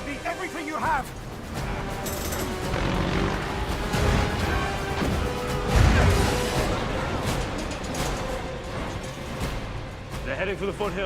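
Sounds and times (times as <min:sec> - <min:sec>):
film score music: 0:00.0 - 0:11.0.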